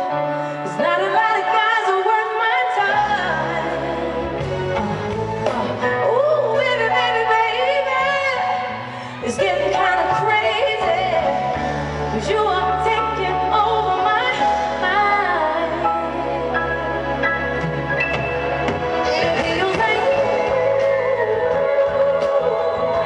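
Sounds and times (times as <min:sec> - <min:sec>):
woman singing: 0:00.0 - 0:17.3, 0:18.8 - 0:23.0.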